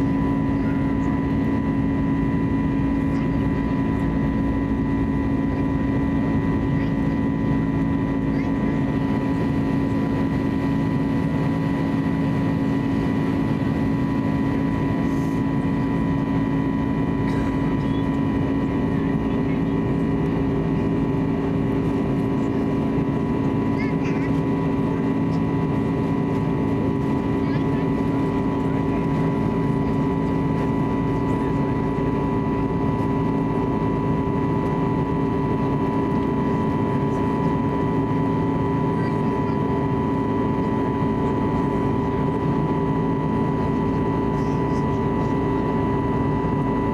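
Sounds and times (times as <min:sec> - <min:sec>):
airplane cabin airflow noise: 0:00.0 - 0:46.9
jet engines humming: 0:00.0 - 0:46.9.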